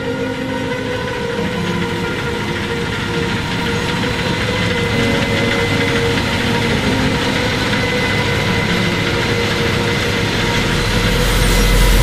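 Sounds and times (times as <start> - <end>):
steady machine whine: 0.0 - 12.0
harvester engine running: 0.1 - 12.0.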